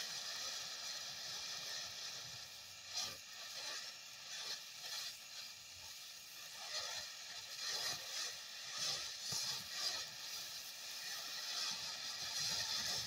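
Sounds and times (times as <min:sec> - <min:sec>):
firework fountain hissing: 0:00.0 - 0:13.0.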